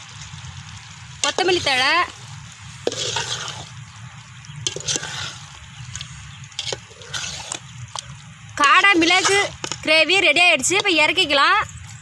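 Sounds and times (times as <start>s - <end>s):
gravy sloshing and bubbling: 0.0s - 12.0s.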